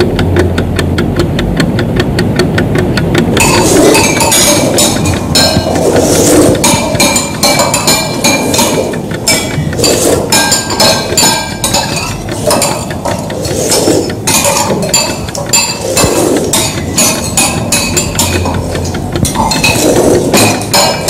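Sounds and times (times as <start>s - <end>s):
cutlery and glassware clinking: 3.4s - 21.0s.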